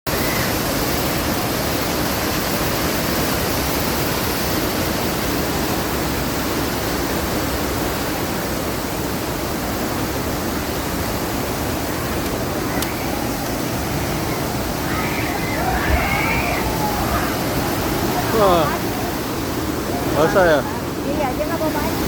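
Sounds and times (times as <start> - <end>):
rushing churning water: 0.1 - 22.0.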